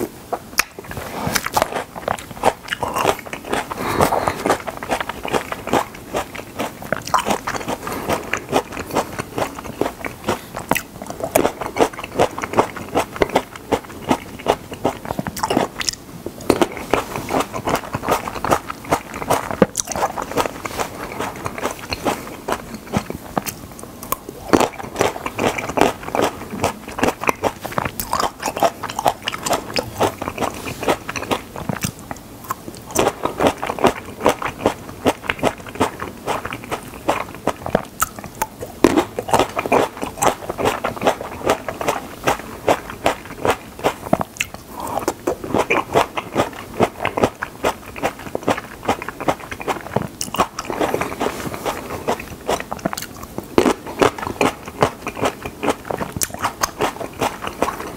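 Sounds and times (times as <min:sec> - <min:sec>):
person chewing tomatoes: 0:00.0 - 0:57.9.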